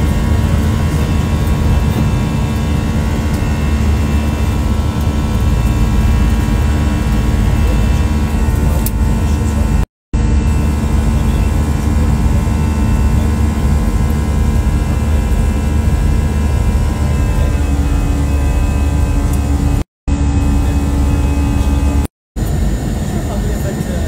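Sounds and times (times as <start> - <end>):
jet engines roaring in cabin: 0.0 - 24.0.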